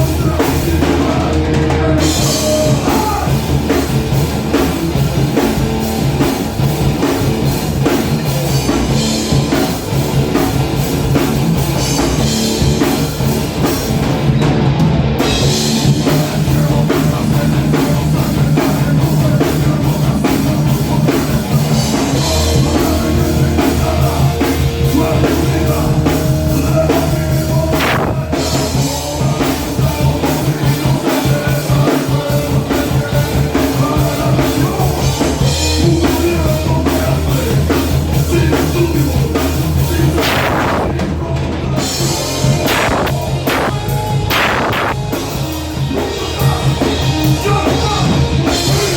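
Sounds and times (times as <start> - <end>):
rock band playing live: 0.0 - 48.9.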